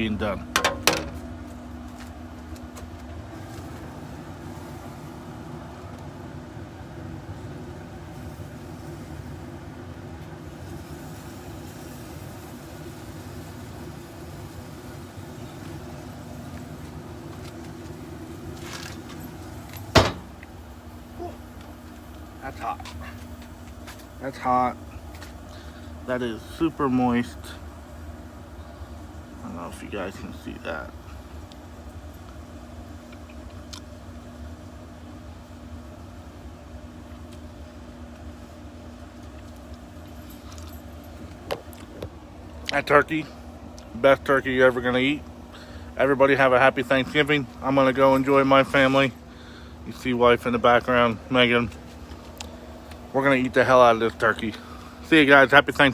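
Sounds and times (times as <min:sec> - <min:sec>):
faint constant tone: 0:00.0 - 0:55.9
low mechanical hum: 0:00.0 - 0:55.9.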